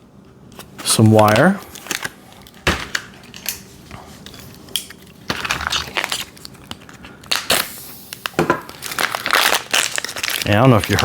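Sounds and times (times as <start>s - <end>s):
plastic packaging crinkling: 0.8s - 11.0s.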